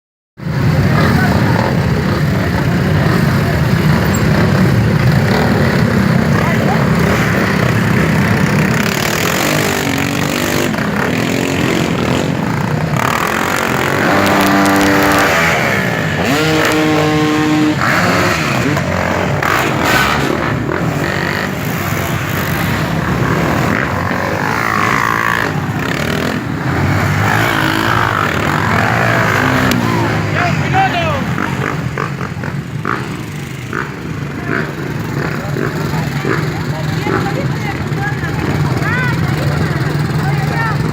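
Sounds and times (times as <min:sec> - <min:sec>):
motorcycle engines revving past: 0:00.4 - 0:40.9.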